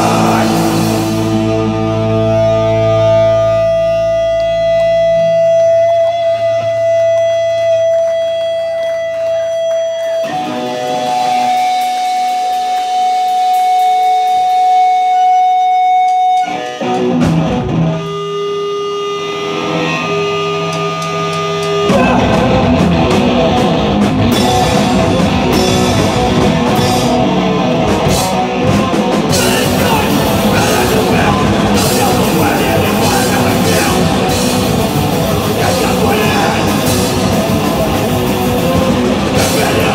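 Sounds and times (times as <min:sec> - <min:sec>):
punk band playing with drums: 0:00.0 - 0:18.5, 0:19.4 - 0:39.9
distorted electric guitar: 0:00.0 - 0:39.9.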